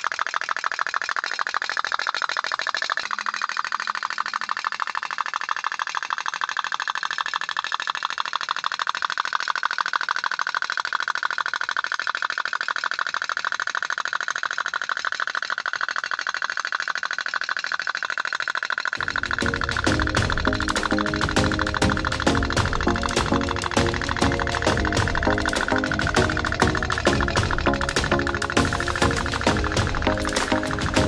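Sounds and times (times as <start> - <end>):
toy steam boat popping: 0.0 - 31.0.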